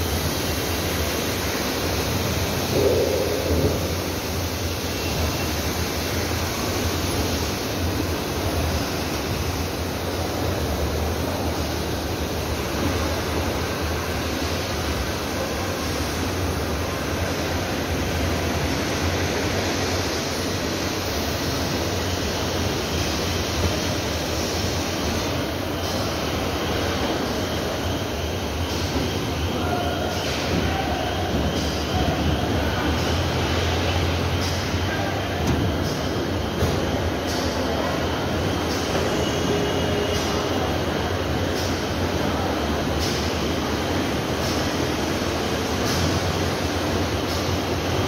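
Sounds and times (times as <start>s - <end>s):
factory floor rumble and hiss: 0.0s - 48.0s.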